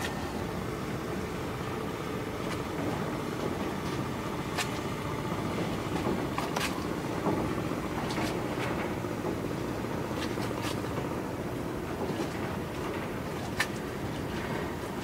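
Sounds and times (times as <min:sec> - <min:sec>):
boat engine rumble: 0:00.0 - 0:15.0
water wash: 0:00.0 - 0:15.0.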